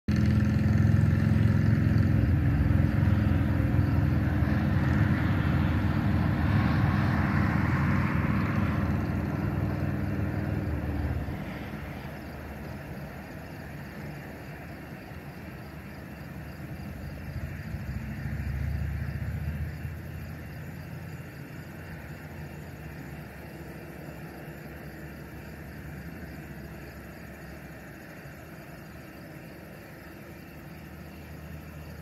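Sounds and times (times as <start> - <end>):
vehicle engine humming: 0.1 - 32.0.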